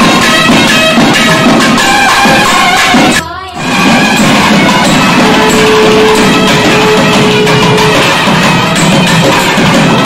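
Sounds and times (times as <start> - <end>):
busy drumming: 0.0 - 10.0.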